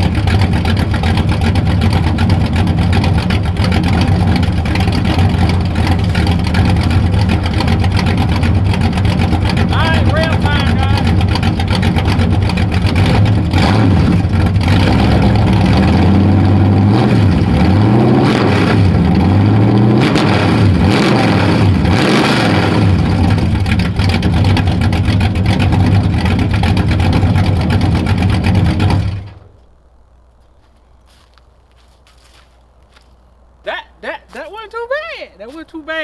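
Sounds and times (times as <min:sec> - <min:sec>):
car engine revving: 0:00.0 - 0:29.5.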